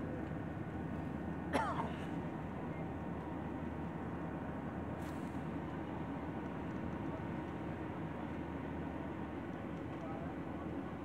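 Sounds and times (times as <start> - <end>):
jet engine and airflow drone: 0.0 - 11.0.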